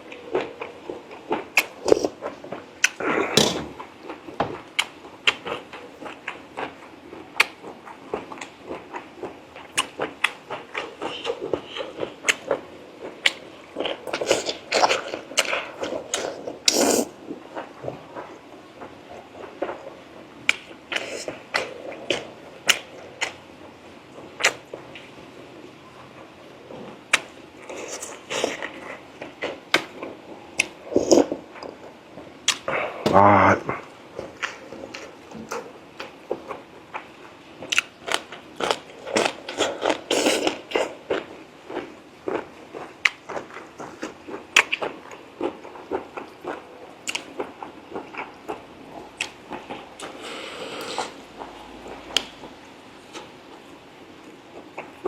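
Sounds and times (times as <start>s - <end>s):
wet chewing: 0.0s - 23.4s, 33.7s - 55.0s.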